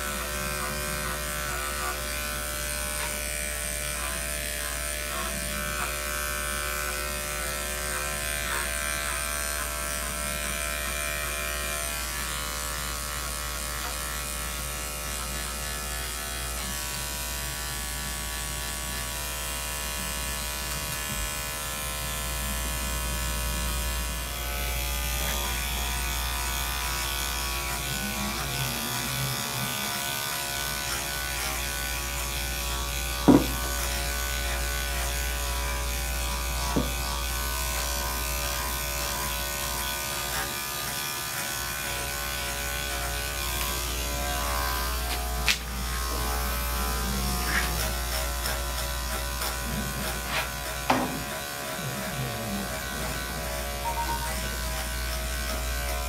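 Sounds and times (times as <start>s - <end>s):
electric clippers shearing fur: 0.0s - 56.0s.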